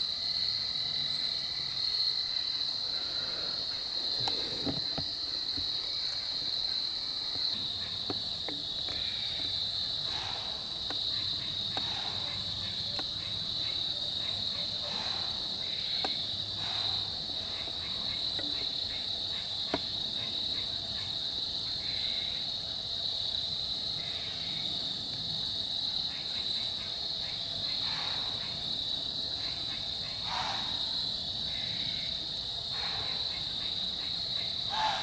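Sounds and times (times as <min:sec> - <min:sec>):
insects chorus: 0:00.0 - 0:35.0.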